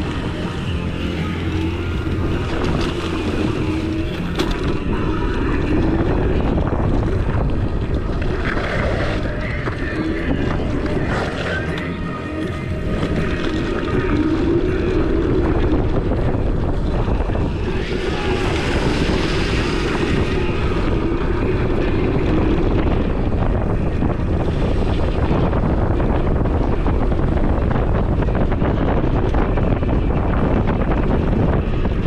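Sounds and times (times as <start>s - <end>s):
low drone with wavering hum: 0.0s - 32.0s
wind buffeting microphone: 0.0s - 32.0s.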